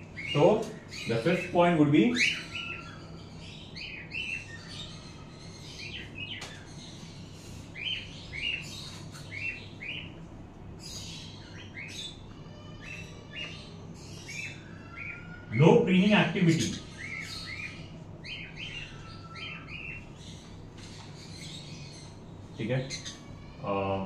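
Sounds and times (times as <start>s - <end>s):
parrots chirping: 0.0s - 24.0s
steady low hum: 0.0s - 24.0s.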